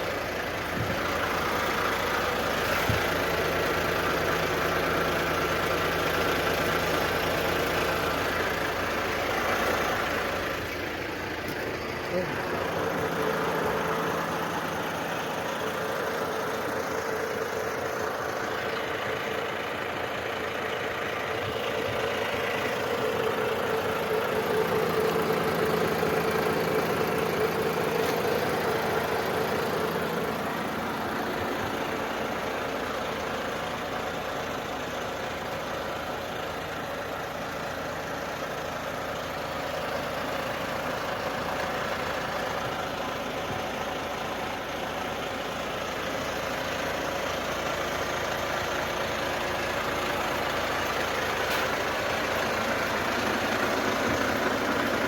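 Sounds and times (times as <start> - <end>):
work machine engine running: 0.0 - 55.0.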